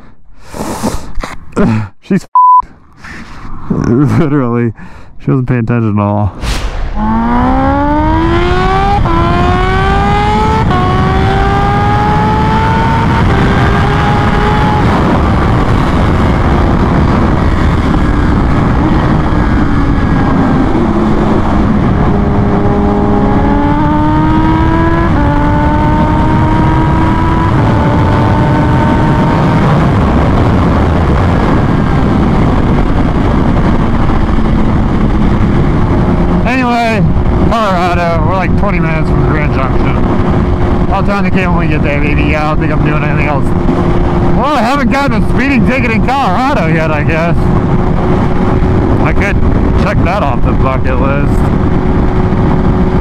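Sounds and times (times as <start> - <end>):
heavy wind rush: 2.7 - 53.0
motorcycle engine accelerating: 6.5 - 53.0.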